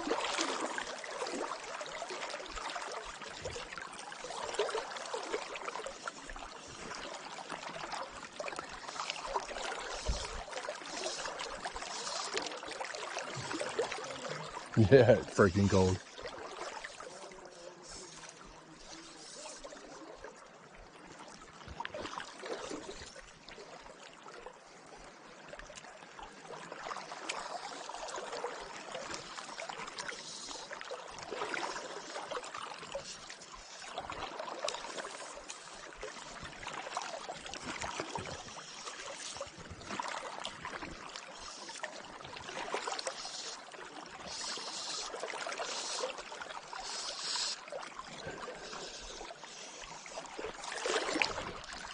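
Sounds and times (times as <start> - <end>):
river current lapping: 0.0 - 51.9.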